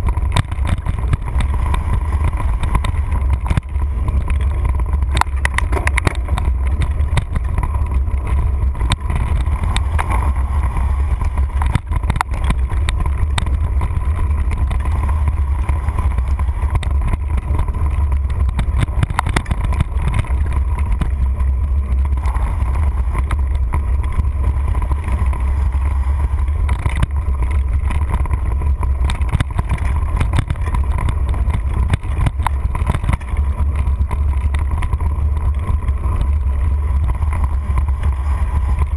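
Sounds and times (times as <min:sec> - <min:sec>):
bike clicks and knocks: 0:00.0 - 0:38.9
wind buffeting microphone: 0:00.0 - 0:38.9.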